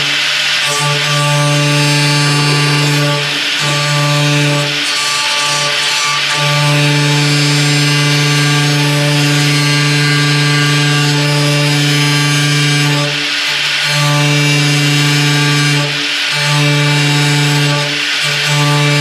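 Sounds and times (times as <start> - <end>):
power grinder cutting metal: 0.0 - 19.0.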